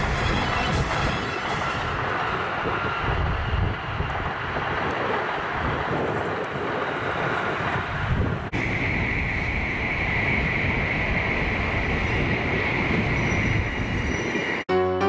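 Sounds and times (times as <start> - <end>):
wind on microphone: 0.0 - 14.6
train passing: 0.0 - 14.7.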